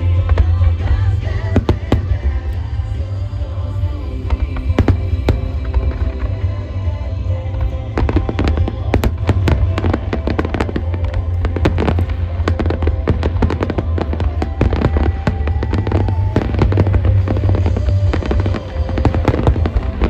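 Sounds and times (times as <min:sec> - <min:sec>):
fireworks crackling: 0:00.0 - 0:20.0
music: 0:00.0 - 0:20.0.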